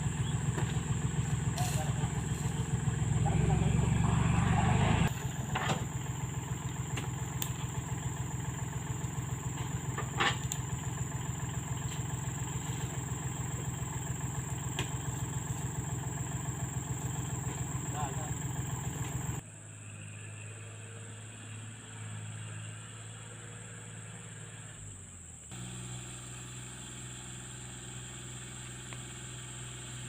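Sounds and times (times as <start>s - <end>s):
diesel engine idling: 0.0s - 19.4s, 20.9s - 30.0s.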